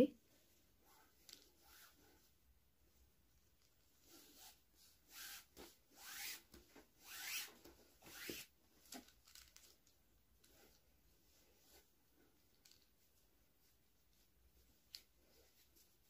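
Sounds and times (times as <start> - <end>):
cord rasping through a knot: 0.2 - 16.0.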